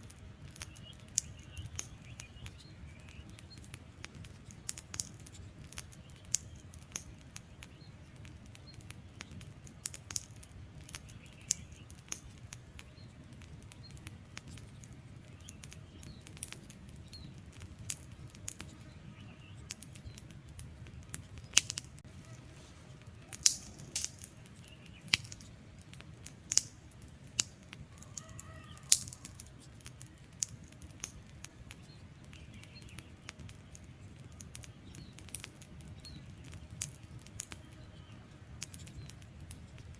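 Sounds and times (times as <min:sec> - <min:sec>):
logs popping and snapping: 0:00.0 - 0:39.9
low rumble of flame: 0:00.0 - 0:39.9.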